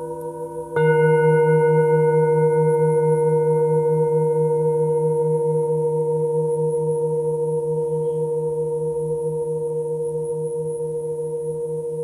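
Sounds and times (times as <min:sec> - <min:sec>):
singing bowls ringing: 0:00.0 - 0:12.0.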